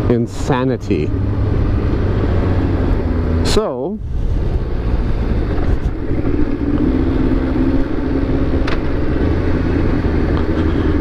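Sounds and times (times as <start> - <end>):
motorcycle engine cruising: 0.0 - 11.0
wind rush over microphone: 1.2 - 11.0.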